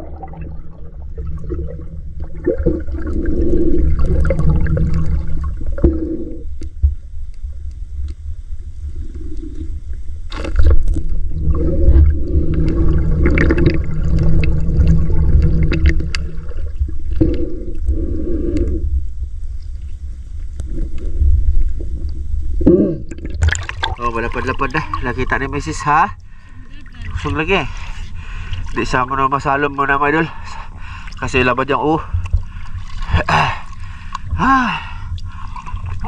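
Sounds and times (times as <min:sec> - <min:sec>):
deep rumble: 0:00.0 - 0:29.8
sea water sloshing and gurgling: 0:00.0 - 0:36.0.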